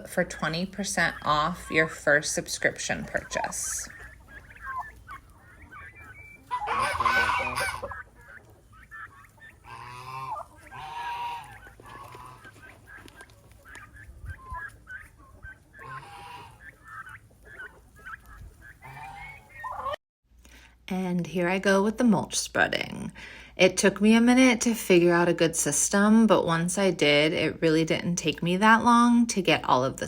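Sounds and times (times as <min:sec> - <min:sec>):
chickens and turkeys clucking: 0:00.0 - 0:20.0, 0:23.2 - 0:30.0.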